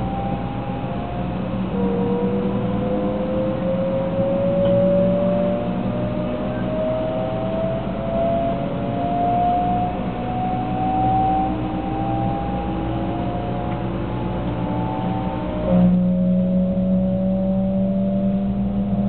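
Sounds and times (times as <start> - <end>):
low train rumble: 0.0 - 10.5, 11.2 - 17.2.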